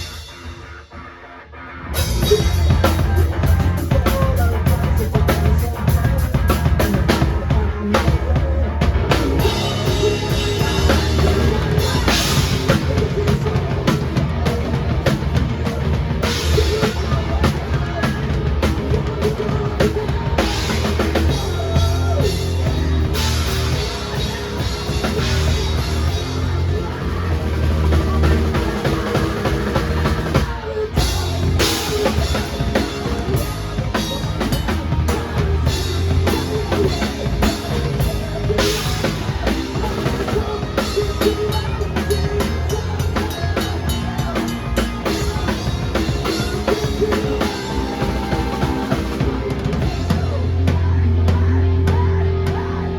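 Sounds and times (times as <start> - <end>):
rock band playing: 0.0 - 52.9
steady bass line: 0.0 - 52.9
bass drum and snare: 2.0 - 52.9.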